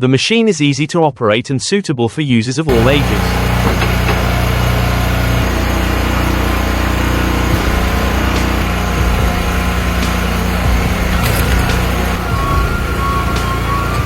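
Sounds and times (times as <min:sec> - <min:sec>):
log splitter engine running: 0:02.7 - 0:14.0.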